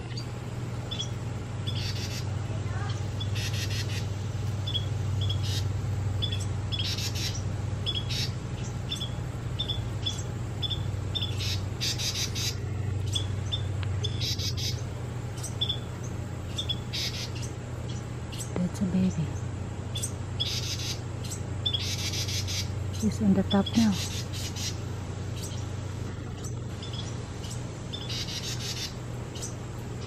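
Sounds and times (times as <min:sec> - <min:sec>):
low hum: 0:00.0 - 0:30.0
bird raspy chatters: 0:00.9 - 0:15.9, 0:16.5 - 0:24.8, 0:26.3 - 0:29.6.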